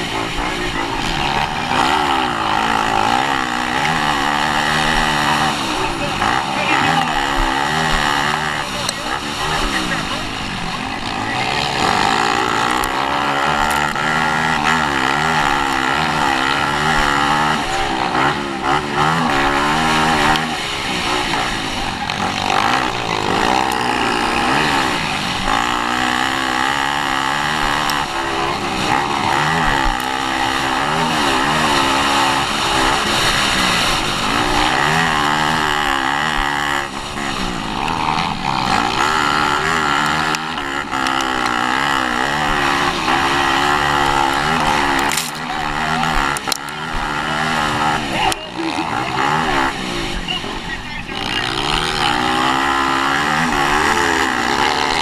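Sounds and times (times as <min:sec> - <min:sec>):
dirt bike engine revving: 0:00.0 - 0:55.0
heavy rushing noise: 0:00.0 - 0:55.0.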